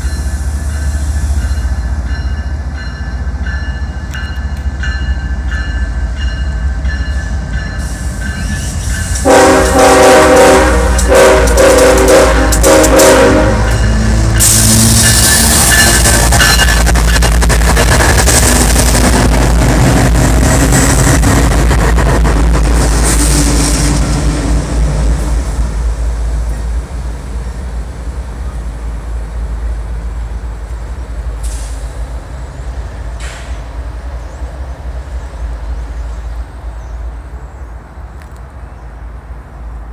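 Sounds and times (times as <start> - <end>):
diesel locomotives passing: 0.0 - 39.9.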